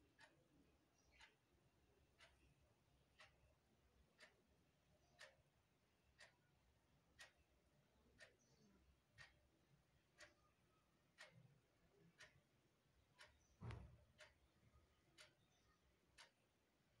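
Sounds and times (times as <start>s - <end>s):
faint clock ticking: 0.0s - 17.0s.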